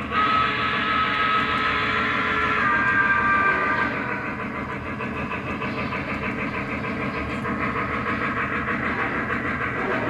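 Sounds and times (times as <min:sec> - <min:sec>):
model train rumbling and clattering: 0:00.0 - 0:10.0.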